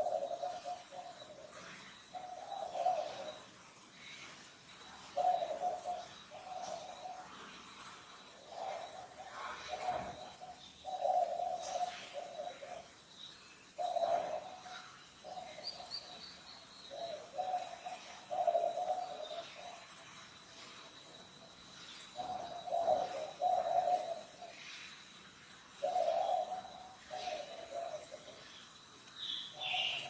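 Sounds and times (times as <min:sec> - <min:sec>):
dove cooing: 0:00.0 - 0:13.1, 0:13.7 - 0:25.1, 0:25.7 - 0:30.0
small birds chirping: 0:00.0 - 0:30.0
thin steady high tone: 0:00.0 - 0:30.0.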